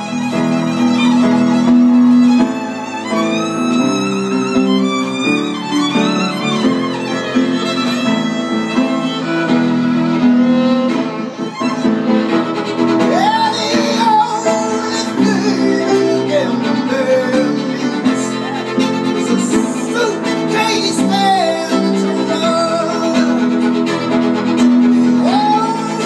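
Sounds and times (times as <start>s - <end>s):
piano accompaniment: 0.0s - 26.0s
violin played with bow: 0.0s - 26.0s.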